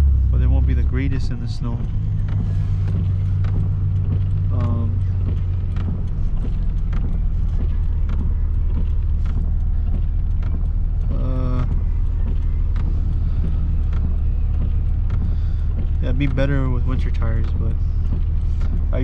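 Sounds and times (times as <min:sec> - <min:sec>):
car engine droning: 0:00.0 - 0:19.0
faint regular ticks: 0:00.0 - 0:19.0.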